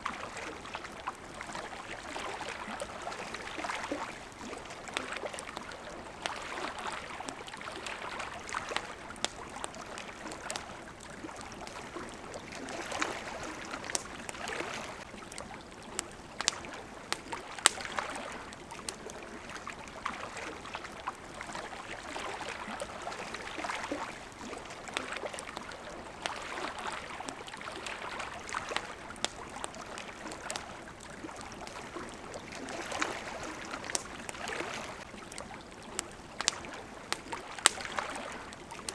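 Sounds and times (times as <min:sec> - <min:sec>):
campfire crackling: 0:00.0 - 0:38.9
water washing in swells: 0:00.0 - 0:38.9.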